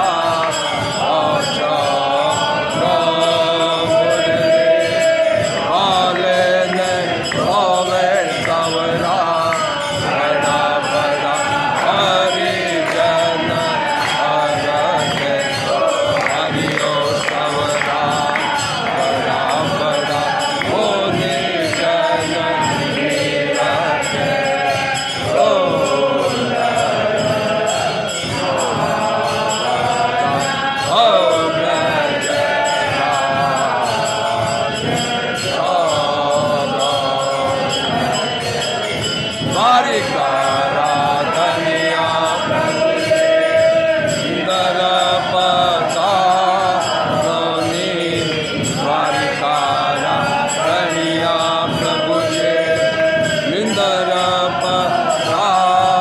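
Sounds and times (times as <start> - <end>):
voices chanting a hymn: 0.0 - 56.0.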